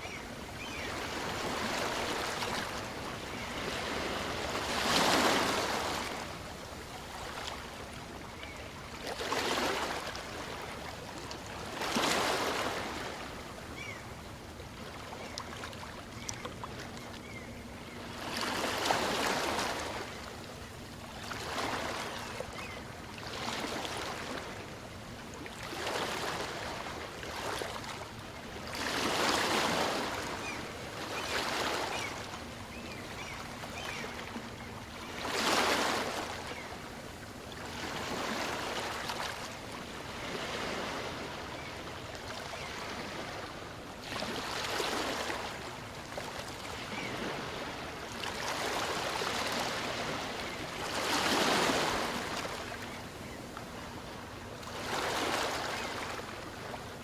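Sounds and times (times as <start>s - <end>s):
small waves breaking on a beach: 0.0s - 57.0s.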